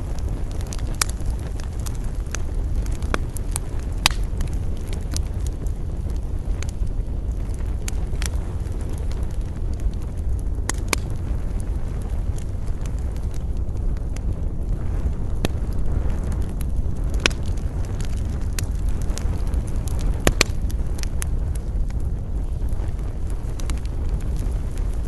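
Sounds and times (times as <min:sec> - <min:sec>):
campfire crackling and popping: 0:00.0 - 0:25.0
low rumble of wind: 0:00.0 - 0:25.0.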